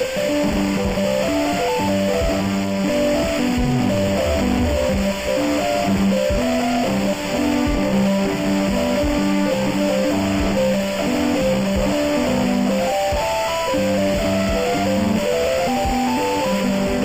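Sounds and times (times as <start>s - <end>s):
instrumental background music: 0.0s - 17.0s.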